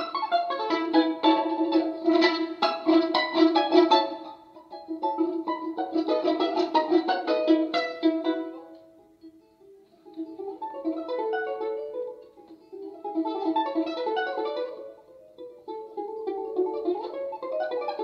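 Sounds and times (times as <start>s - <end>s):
balalaika plucked notes: 0.0s - 18.0s.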